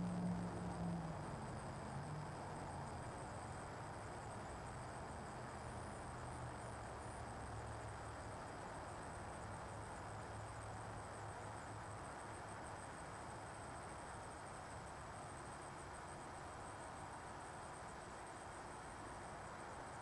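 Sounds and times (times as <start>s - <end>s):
high insect trill: 0.0s - 20.0s
low hum and hiss: 0.0s - 20.0s.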